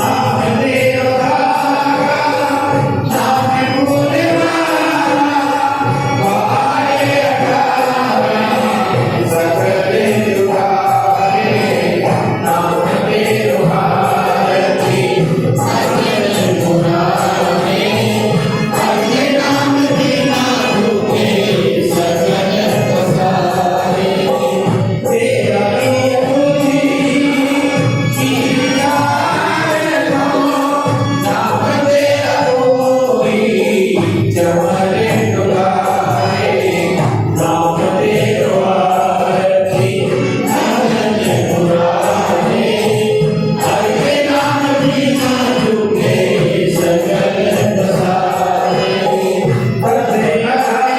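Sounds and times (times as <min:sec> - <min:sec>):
group singing a hymn over music: 0:00.0 - 0:50.9.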